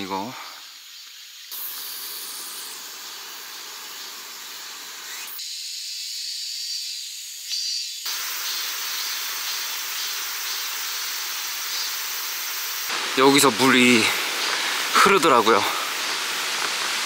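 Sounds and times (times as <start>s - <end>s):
forest ambience hiss: 0.0s - 17.0s.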